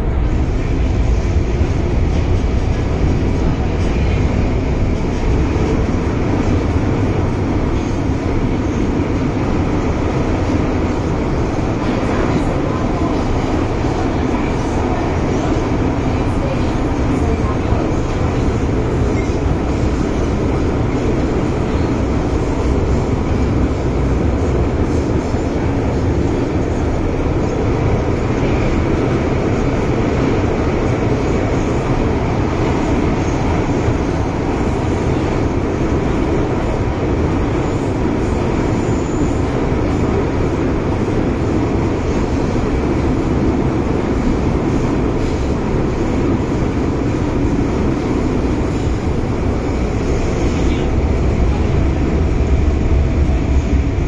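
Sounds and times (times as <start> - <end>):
train rumbling in tunnel: 0.0 - 54.0.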